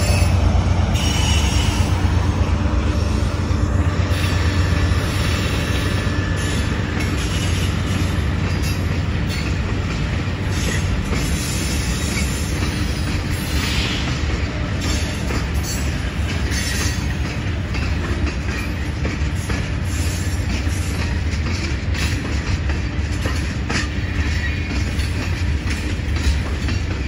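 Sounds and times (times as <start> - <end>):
locomotive engine humming: 0.0 - 27.0
train wheels rolling on rails: 0.0 - 27.0.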